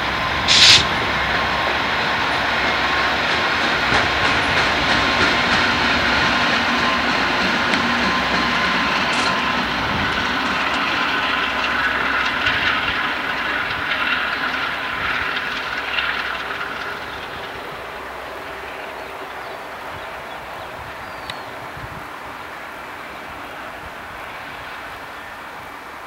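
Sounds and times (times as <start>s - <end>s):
diesel locomotives passing: 0.0s - 26.0s
train wheels on rails: 0.0s - 26.0s.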